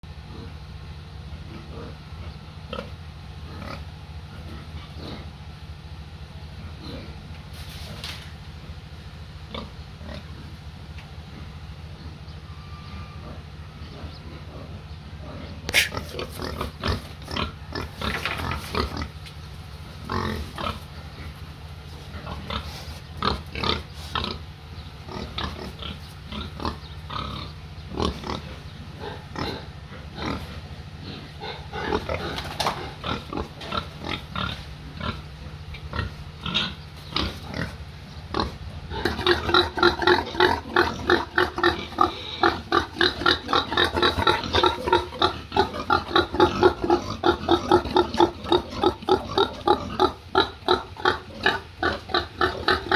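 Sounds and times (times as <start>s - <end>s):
steady low hum: 0.0s - 52.9s
pigs grunting: 0.1s - 5.7s, 6.4s - 52.9s.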